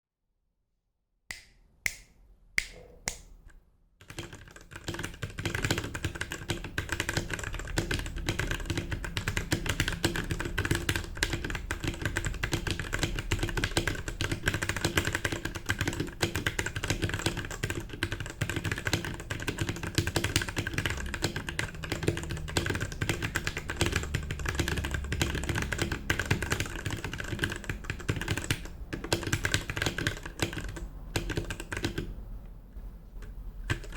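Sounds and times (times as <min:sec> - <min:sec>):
mechanical keyboard typing: 0:04.0 - 0:32.2, 0:33.6 - 0:33.9.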